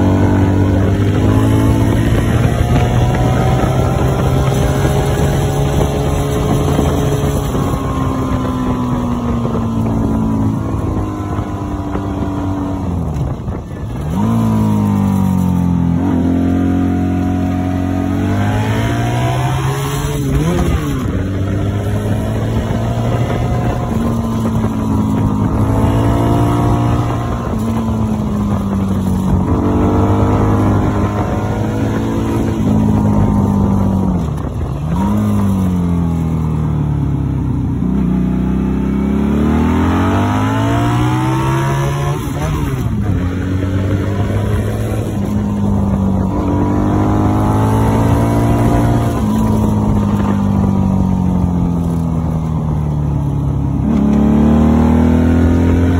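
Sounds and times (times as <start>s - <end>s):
motorcycle engine while riding: 0.0s - 55.9s.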